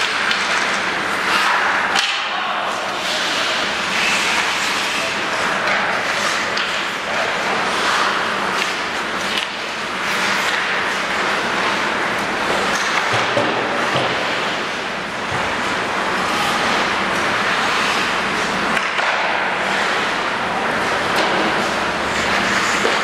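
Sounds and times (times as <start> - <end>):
skate blades scraping ice: 0.0 - 2.1, 2.7 - 23.0
faint clicks of sticks or puck: 0.0 - 2.4, 3.0 - 14.8, 17.4 - 20.2, 20.8 - 23.0
ice rink rushing noise: 0.0 - 23.0.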